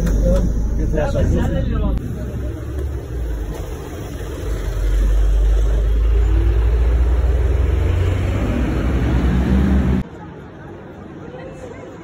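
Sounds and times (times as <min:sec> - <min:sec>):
vehicle engine rising: 0:00.0 - 0:10.0
road traffic rumble: 0:00.0 - 0:12.0.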